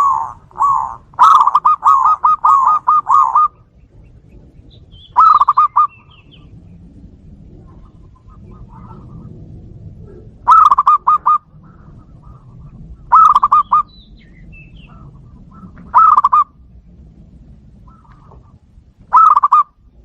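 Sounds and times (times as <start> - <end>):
dove cooing: 0.0 - 16.9, 17.7 - 20.0
faint bird calls: 0.0 - 16.9, 17.8 - 20.0.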